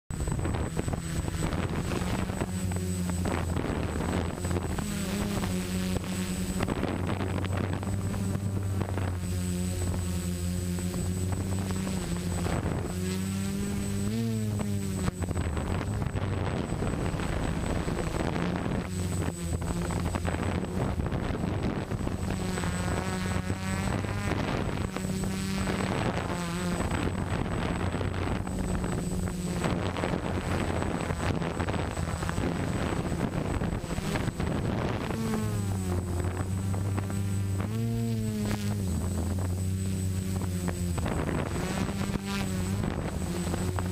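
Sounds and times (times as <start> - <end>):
quadcopter propellers buzzing: 0.1 - 43.9.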